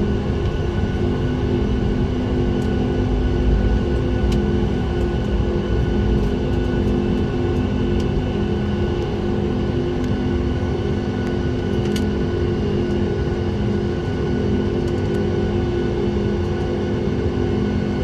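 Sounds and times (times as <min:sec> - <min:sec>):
jet engine drone in cabin: 0:00.0 - 0:18.0.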